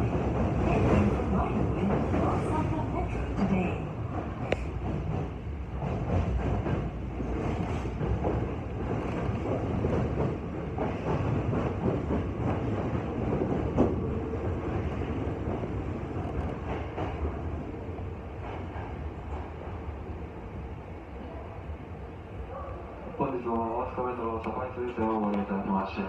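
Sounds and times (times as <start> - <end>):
train rolling rumble: 0.0 - 26.0.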